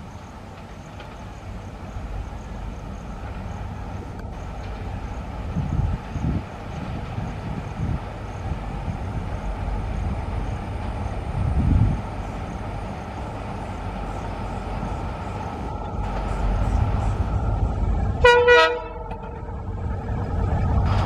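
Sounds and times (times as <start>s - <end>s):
diesel locomotive rumble: 0.0s - 21.0s.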